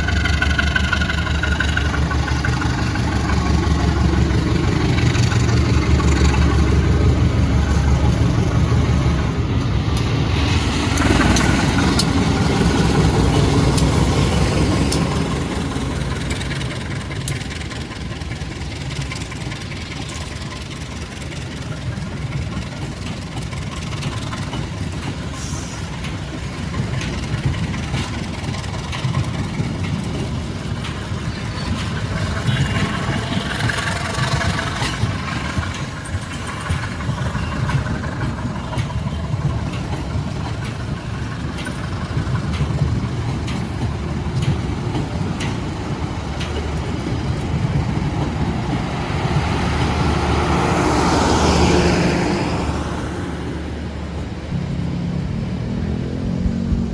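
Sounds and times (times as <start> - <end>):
wheels clicking and knocking: 0.0 - 52.8
train rumbling on rails: 0.0 - 56.9.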